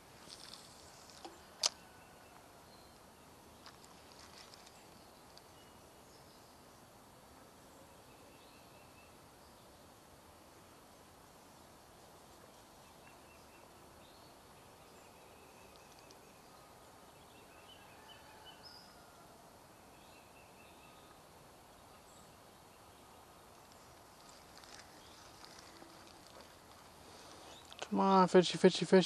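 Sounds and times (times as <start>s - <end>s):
faint outdoor hiss: 0.0s - 29.0s.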